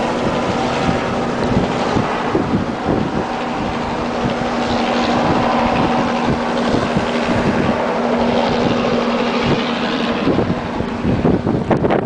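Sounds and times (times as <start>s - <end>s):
helicopter engine whine: 0.0s - 12.0s
helicopter rotor noise: 0.0s - 12.0s.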